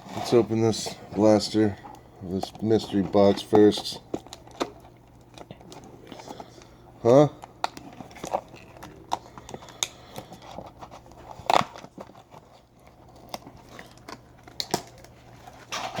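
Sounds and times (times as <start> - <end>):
cardboard clicks and crinkles: 0.0 - 16.0
faint steady hum: 0.0 - 16.0.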